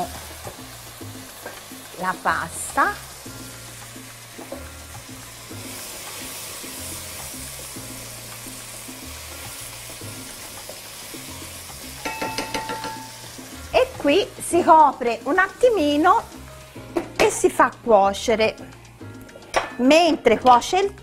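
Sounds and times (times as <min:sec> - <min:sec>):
background music with bass line: 0:00.0 - 0:15.1, 0:15.7 - 0:21.0
food sizzling in a pan: 0:00.0 - 0:21.0.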